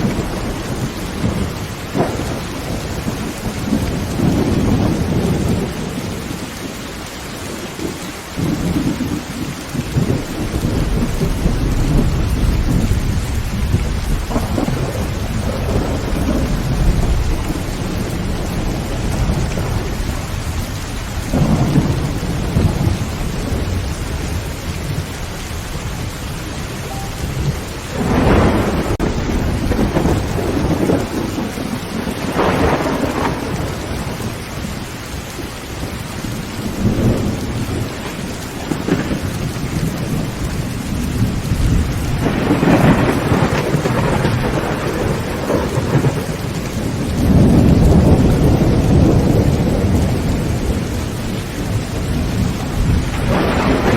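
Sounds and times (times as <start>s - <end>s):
thunder rolling: 0.0s - 6.5s, 7.5s - 34.4s, 36.2s - 53.9s
heavy rain on tin roof: 0.0s - 53.9s.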